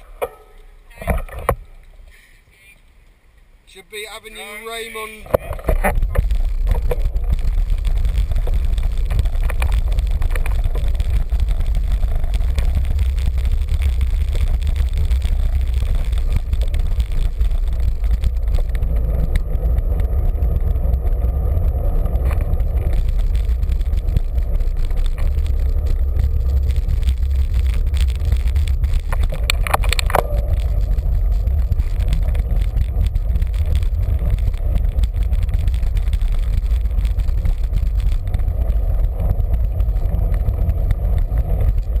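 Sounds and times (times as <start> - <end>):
tyre road rumble: 0.0 - 42.0
wind buffeting microphone: 5.3 - 42.0.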